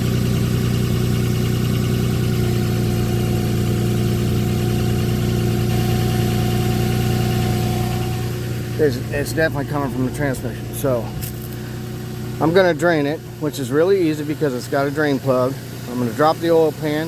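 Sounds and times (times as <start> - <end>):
car engine idling: 0.0 - 17.0
transmission whine: 2.4 - 17.0.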